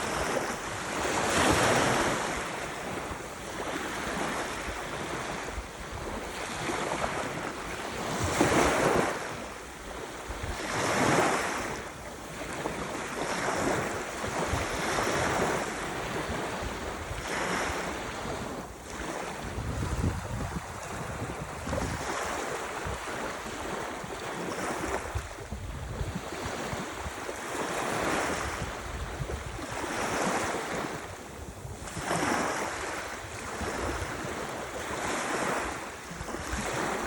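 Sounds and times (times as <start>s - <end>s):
ocean waves breaking: 0.0s - 37.0s
wind on microphone: 0.0s - 37.0s.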